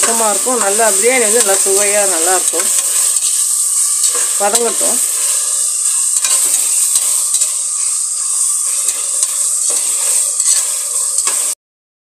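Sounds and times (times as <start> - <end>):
spatula scraping a pot: 0.0 - 11.5
onions sizzling in hot oil: 0.0 - 11.6.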